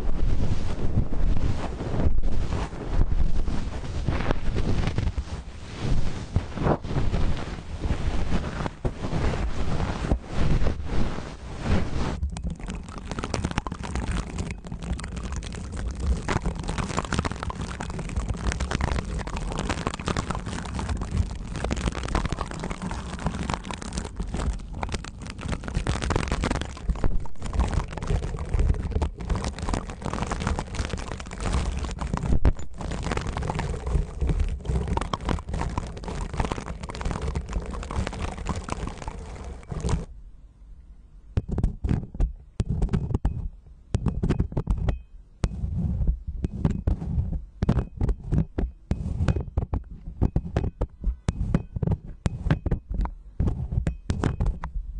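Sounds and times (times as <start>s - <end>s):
pipe cleaner scraping microphone: 0.0s - 40.1s, 45.4s - 54.6s
stick scratching microphone: 0.0s - 40.1s, 41.4s - 54.7s.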